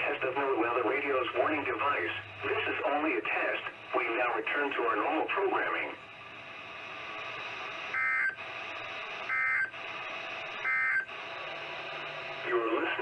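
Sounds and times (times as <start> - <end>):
steady radio hiss: 0.0 - 13.0.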